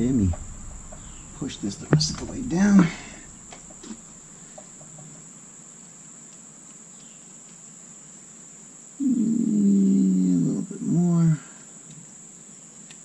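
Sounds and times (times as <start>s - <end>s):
high-pitched whine and hiss: 0.0s - 13.0s.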